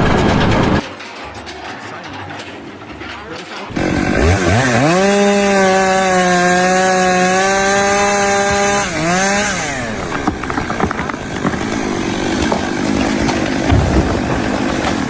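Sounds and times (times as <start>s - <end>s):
rattling and clattering: 0.0s - 15.0s
small engine running: 0.0s - 15.0s.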